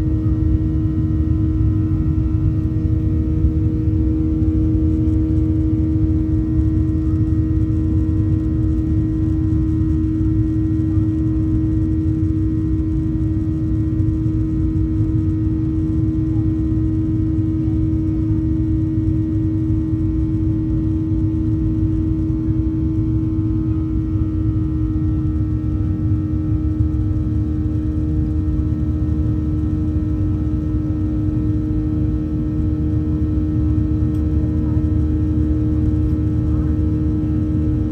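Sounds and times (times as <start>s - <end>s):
airplane cabin engine drone: 0.0s - 37.9s.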